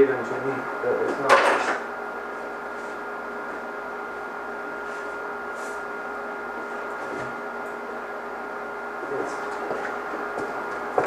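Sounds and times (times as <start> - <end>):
machine hum with high whine: 0.0 - 11.0.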